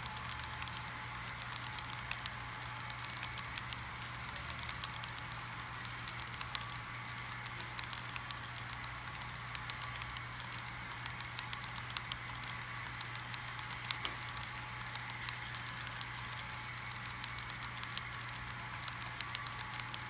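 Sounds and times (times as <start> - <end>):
model train wheels clicking on rails: 0.0 - 20.0
steady hum: 0.0 - 20.0.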